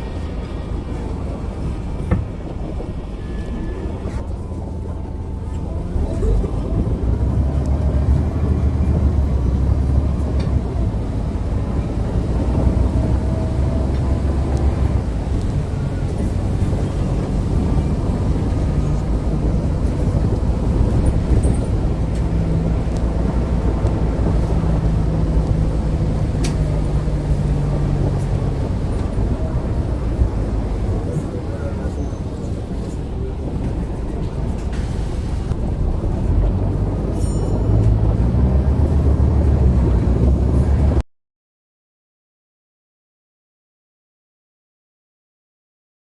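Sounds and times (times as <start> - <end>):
bus engine running: 0.0 - 41.0.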